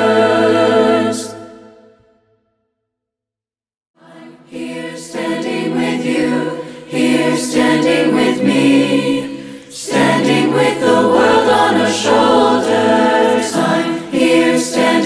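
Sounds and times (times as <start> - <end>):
choir singing a cappella: 0.0 - 2.1, 4.0 - 15.0.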